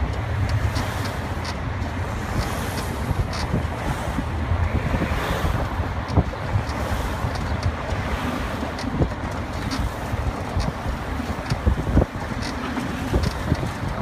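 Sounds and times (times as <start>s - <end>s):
tow truck road noise: 0.0s - 14.0s
wind buffeting microphone: 0.0s - 14.0s.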